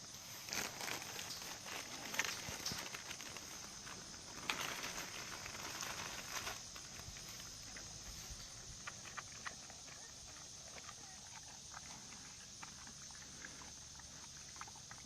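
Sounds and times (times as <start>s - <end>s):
faint crackling and rustling: 0.0s - 15.0s
high insect drone: 0.0s - 15.0s.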